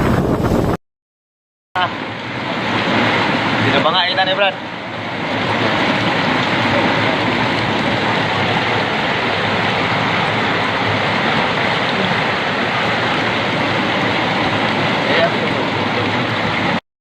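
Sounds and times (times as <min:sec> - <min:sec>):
rushing wind and water: 0:00.0 - 0:00.8, 0:01.8 - 0:16.8.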